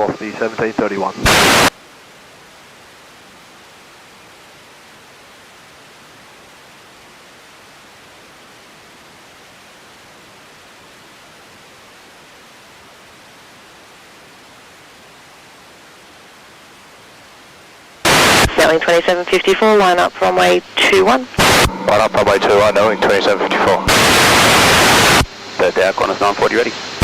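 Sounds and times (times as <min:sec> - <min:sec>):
radio feed hiss: 0:00.0 - 0:27.0.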